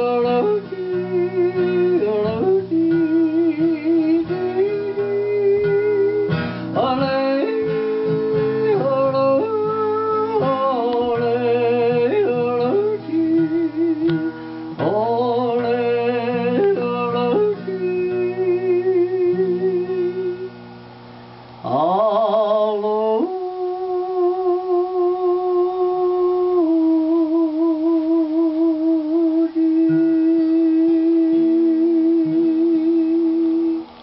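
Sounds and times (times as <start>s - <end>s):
man singing wordless notes: 0.0s - 20.6s, 21.6s - 34.0s
acoustic guitar: 0.0s - 34.0s.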